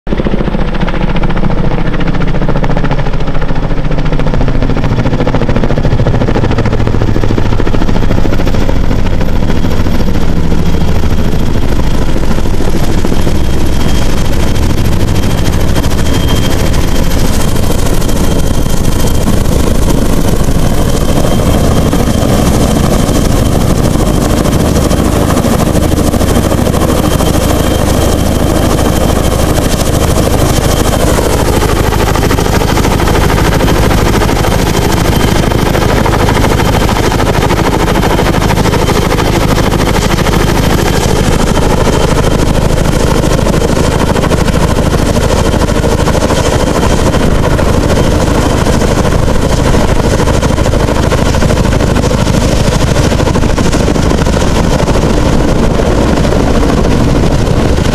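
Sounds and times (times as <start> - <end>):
helicopter engine whine: 0.1 - 57.9
helicopter rotors chopping: 0.1 - 57.9.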